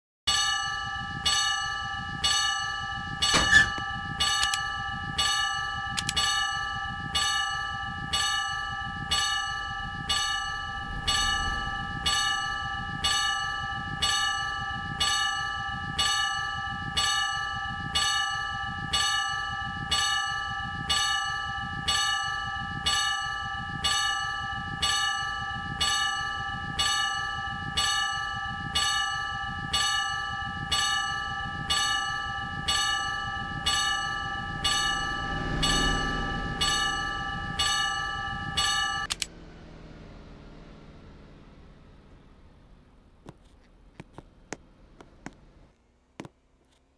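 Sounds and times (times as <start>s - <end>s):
level crossing warning bell: 0.3s - 39.2s.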